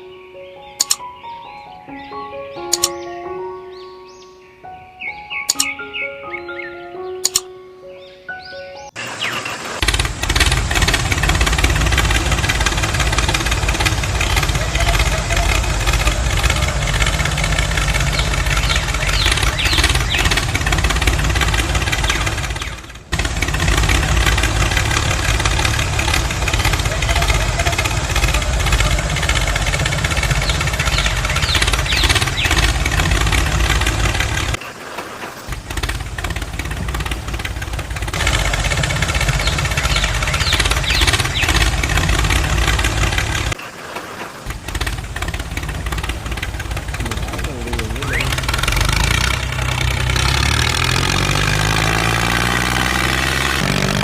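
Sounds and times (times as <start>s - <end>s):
small petrol engine running: 9.0s - 34.6s, 35.4s - 43.7s, 44.3s - 54.0s.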